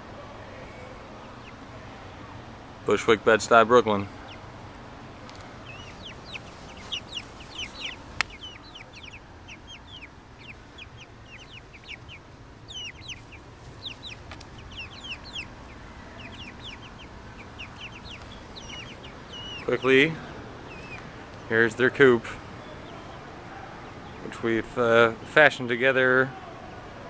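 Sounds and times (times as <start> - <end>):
young chickens peeping: 0.0 - 25.8.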